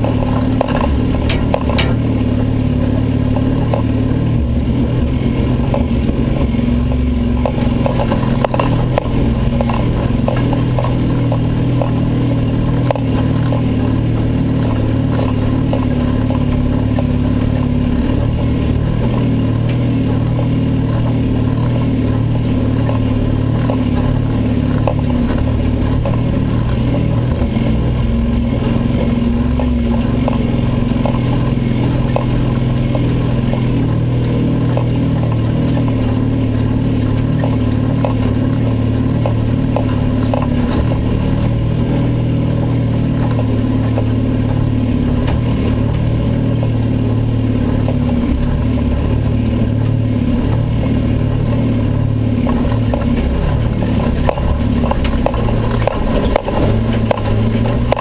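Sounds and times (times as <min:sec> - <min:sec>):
rally car engine running hard: 0:00.0 - 0:58.0.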